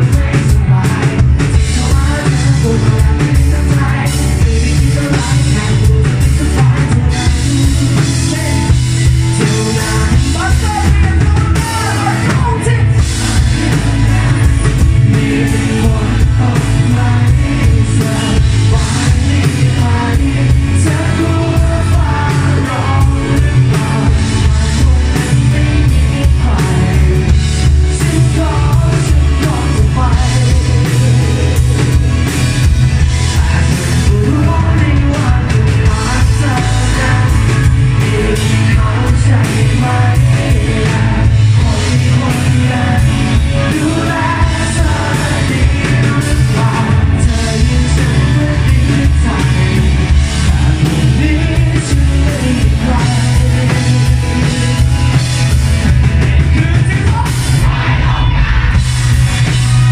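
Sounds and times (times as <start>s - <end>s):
male lead vocal: 0.0s - 59.9s
rock band playing live: 0.0s - 59.9s.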